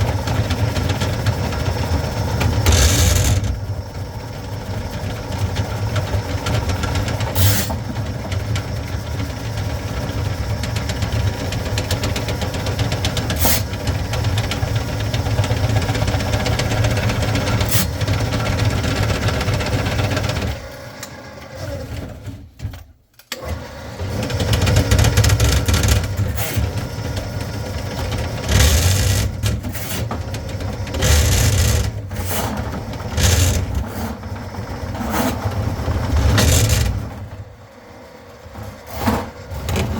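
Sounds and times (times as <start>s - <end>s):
drain-cleaning machine running: 0.0s - 22.6s, 23.4s - 39.9s.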